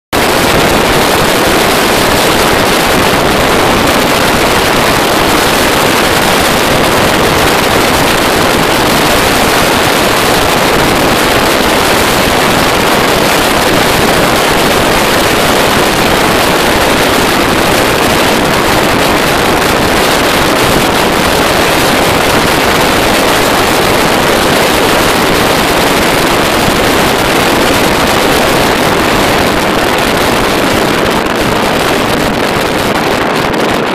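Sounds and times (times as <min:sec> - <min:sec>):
car running noise: 0:00.1 - 0:33.9
wind rushing past car window: 0:00.1 - 0:33.9.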